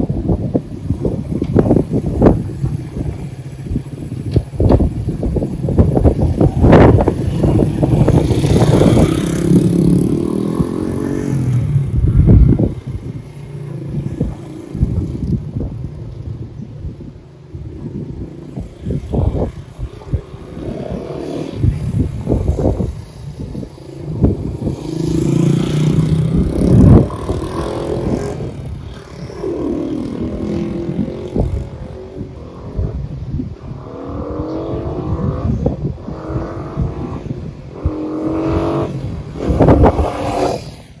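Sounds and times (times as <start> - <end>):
motorcycle engine accelerating: 0.1 - 16.5, 17.5 - 41.0.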